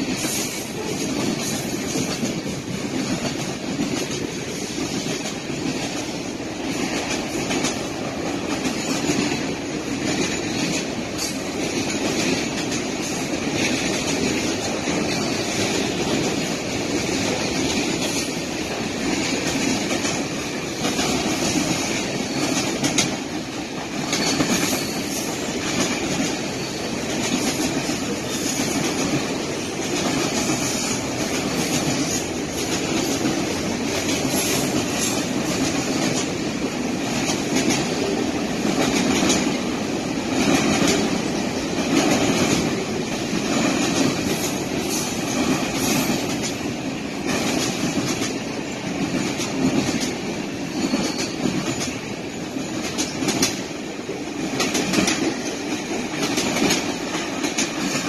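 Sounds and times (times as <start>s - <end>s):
freight train rumbling on rails: 0.0s - 58.0s
wheels clacking over rail joints: 0.0s - 58.0s.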